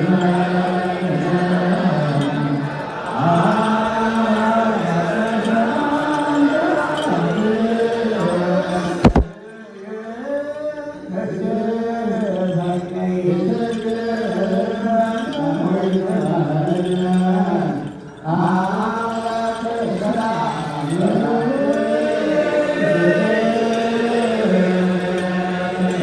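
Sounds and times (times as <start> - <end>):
person chanting liturgical chant: 0.0 - 26.0.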